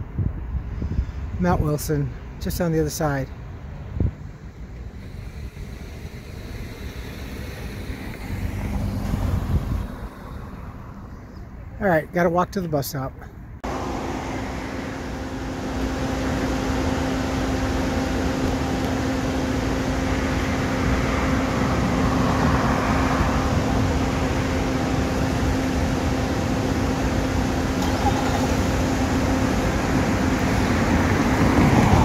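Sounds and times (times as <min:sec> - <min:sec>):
cars passing by: 0:00.0 - 0:32.0
steady low traffic hum: 0:00.0 - 0:32.0.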